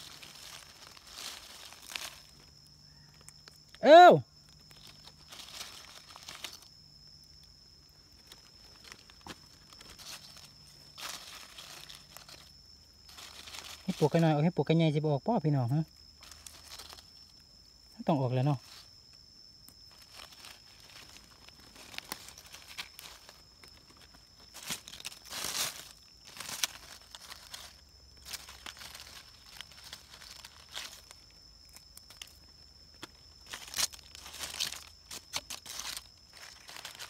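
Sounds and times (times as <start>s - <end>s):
dry leaves crackling and rustling: 0.0s - 3.8s, 4.4s - 37.0s.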